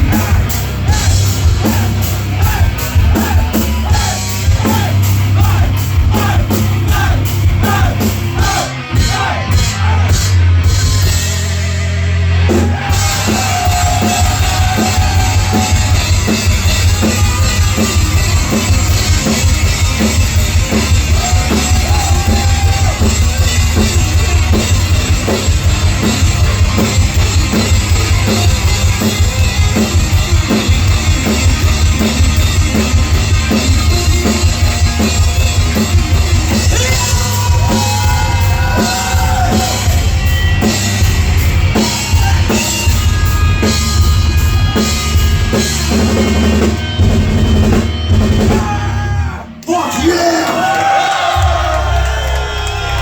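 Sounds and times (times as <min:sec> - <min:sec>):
fast driving drum beat: 0:00.0 - 0:49.1
heavy metal band playing live: 0:00.0 - 0:53.0.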